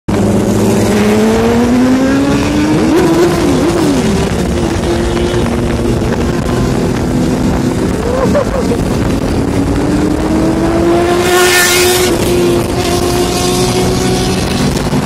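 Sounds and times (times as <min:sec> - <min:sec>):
motorcycle engine accelerating: 0:00.1 - 0:15.0
wind rush: 0:00.1 - 0:15.0.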